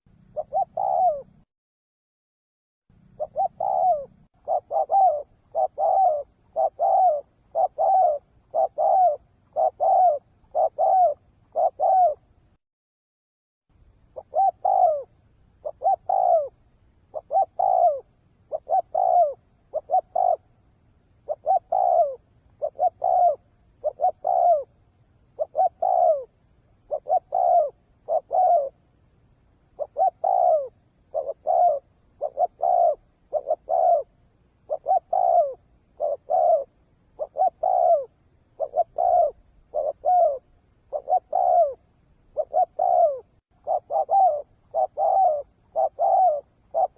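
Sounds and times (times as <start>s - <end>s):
dove cooing: 0.2s - 1.4s, 3.0s - 12.3s, 14.1s - 20.6s, 21.2s - 28.8s, 29.7s - 46.9s.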